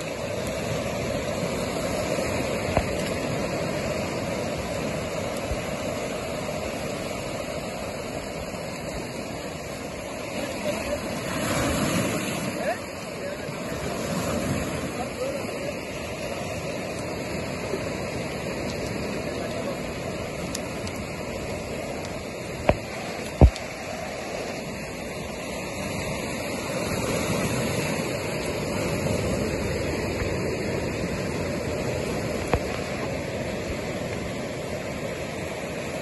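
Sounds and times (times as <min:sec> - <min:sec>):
surf washing over cobbles: 0:00.0 - 0:36.0.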